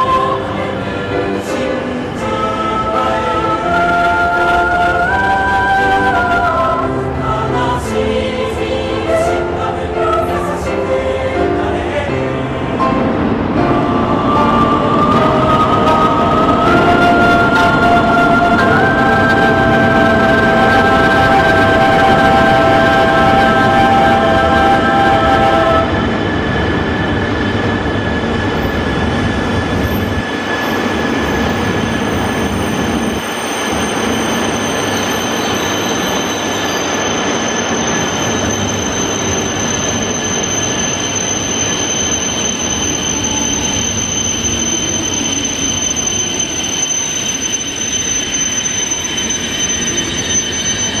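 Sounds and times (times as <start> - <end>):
high-pitched wheel squeal: 0.0 - 12.1, 14.1 - 51.0
train cars rumbling: 0.0 - 51.0.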